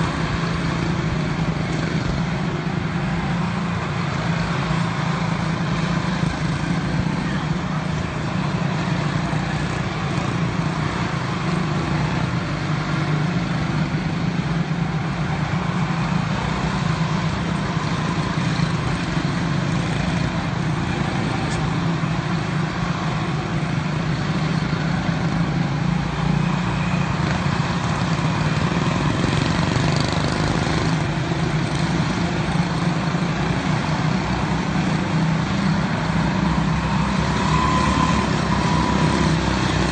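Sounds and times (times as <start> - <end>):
small race car engines droning: 0.0 - 39.9.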